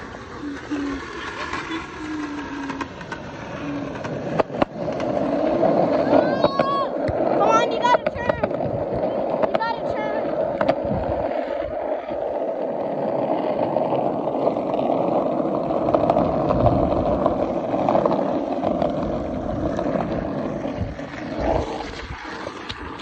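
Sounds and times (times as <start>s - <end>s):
skateboard wheels rolling on asphalt: 0.0s - 23.0s.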